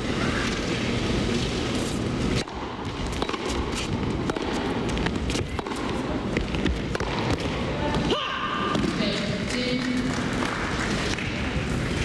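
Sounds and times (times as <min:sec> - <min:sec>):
low crowd noise: 0:00.0 - 0:12.0.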